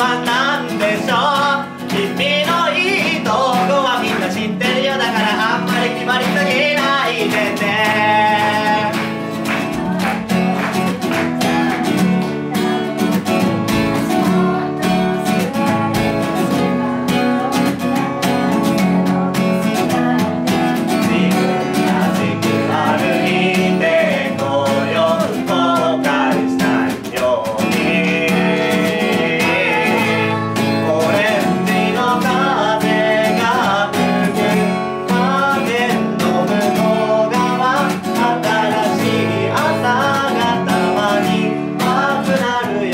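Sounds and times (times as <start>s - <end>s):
acoustic guitar strumming: 0.0s - 42.9s
person singing: 0.0s - 42.9s.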